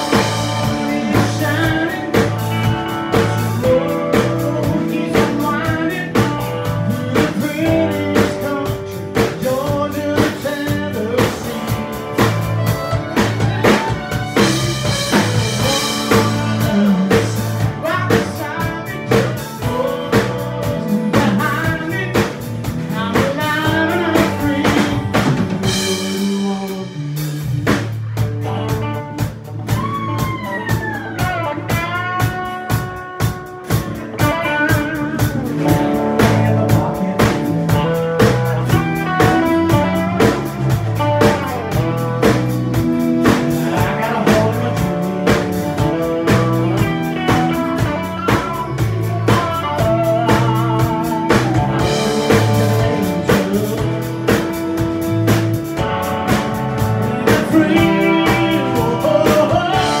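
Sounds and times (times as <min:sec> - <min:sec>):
live country band playing: 0:00.0 - 1:00.0
man singing lead: 0:00.0 - 1:00.0.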